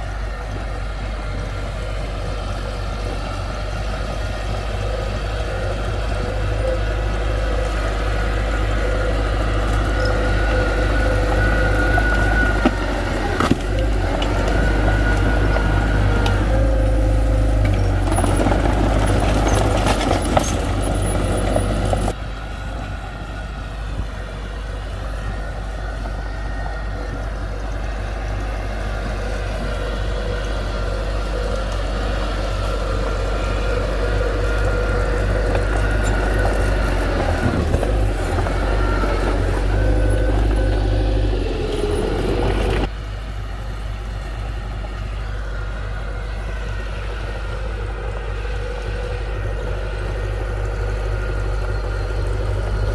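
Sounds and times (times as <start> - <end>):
faint whine: 0.0 - 52.9
heavy machine engine running: 0.0 - 52.9.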